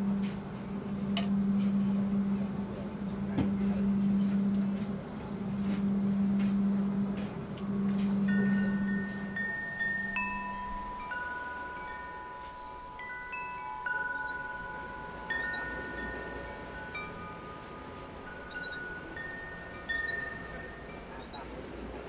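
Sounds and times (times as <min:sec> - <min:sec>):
low steady hum: 0:00.0 - 0:22.0
metal tube wind chimes ringing: 0:00.0 - 0:22.0.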